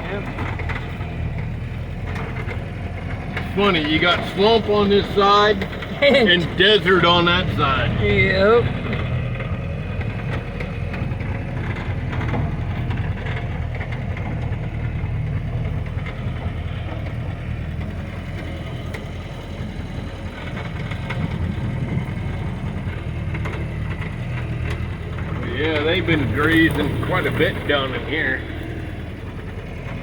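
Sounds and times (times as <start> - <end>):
engine running at low speed: 0.0 - 30.0
rattles and knocks: 0.0 - 30.0.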